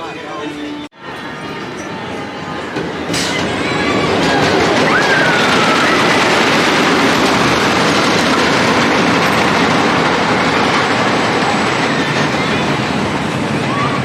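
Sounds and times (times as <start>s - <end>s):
roller coaster train rumbling: 0.0s - 14.0s.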